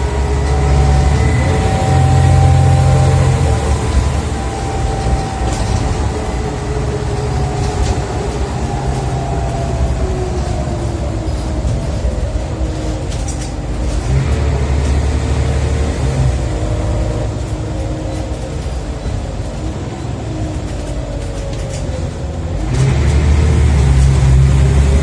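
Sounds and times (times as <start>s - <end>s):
bus engine rumble: 0.0s - 25.0s
gearbox whine: 0.0s - 25.0s.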